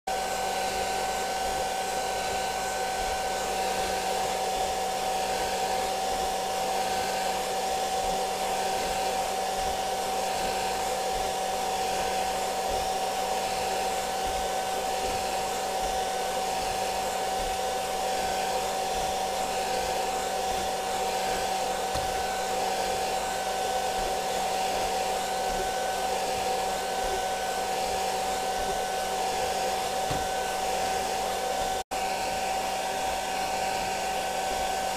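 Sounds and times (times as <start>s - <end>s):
hair dryer whining: 0.1s - 34.9s.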